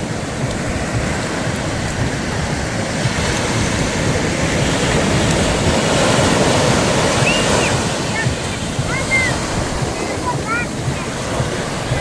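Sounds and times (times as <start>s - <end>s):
sea waves washing on shore: 0.0s - 12.0s.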